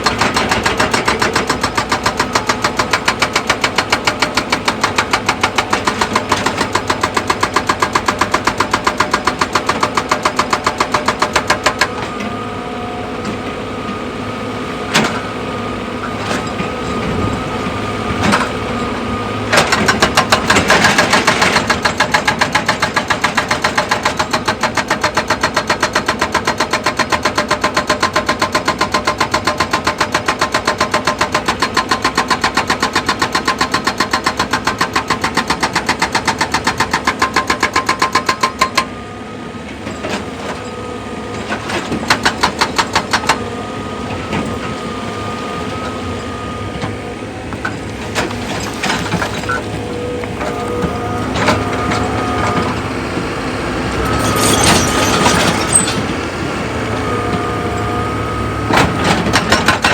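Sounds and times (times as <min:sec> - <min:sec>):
hydraulic rock breaker hammering: 0:00.0 - 0:12.4, 0:14.9 - 0:59.9
excavator engine running: 0:00.0 - 0:59.9.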